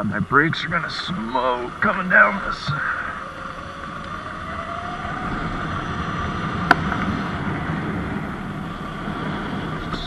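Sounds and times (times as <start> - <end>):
tyre and wind noise: 0.0 - 10.0.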